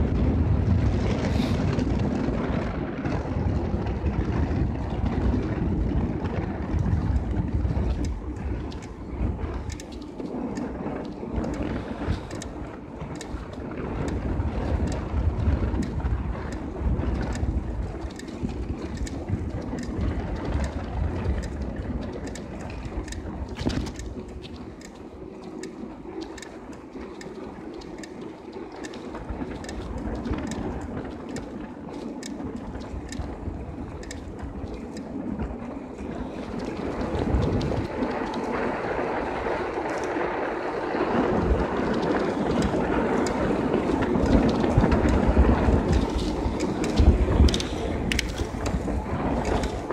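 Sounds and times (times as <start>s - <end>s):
bicycle tyre noise on asphalt: 0.0s - 49.9s
bike clicks and rattles: 0.0s - 49.9s
wind buffeting microphone: 0.0s - 49.9s.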